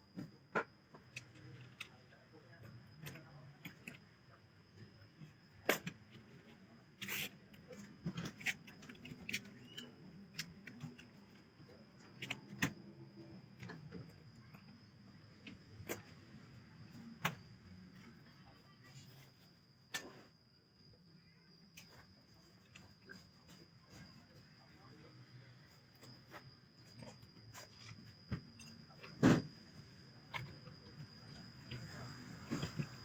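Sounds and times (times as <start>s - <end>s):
faint high-pitched whine: 0.0s - 33.0s.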